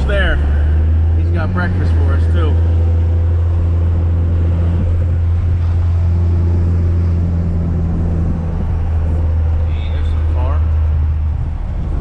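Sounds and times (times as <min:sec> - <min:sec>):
truck engine drone and road noise: 0:00.0 - 0:12.0.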